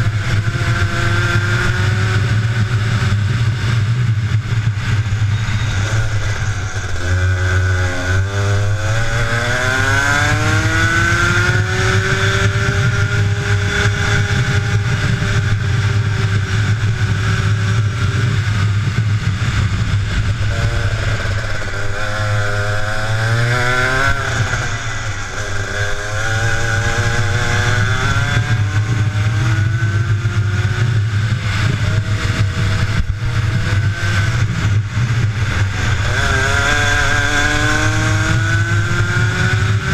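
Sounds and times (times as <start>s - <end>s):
kart engine revving: 0.0s - 39.9s
steady low rumble: 0.0s - 39.9s.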